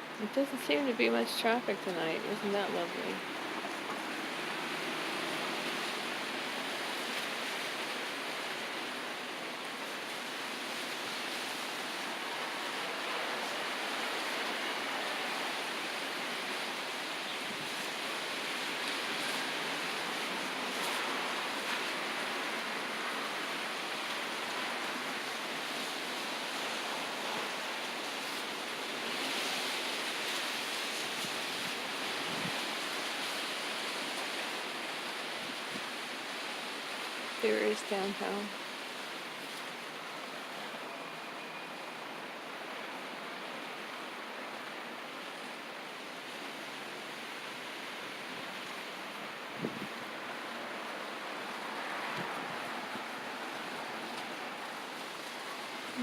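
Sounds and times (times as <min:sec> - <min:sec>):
strong wind through trees: 0:00.0 - 0:56.0.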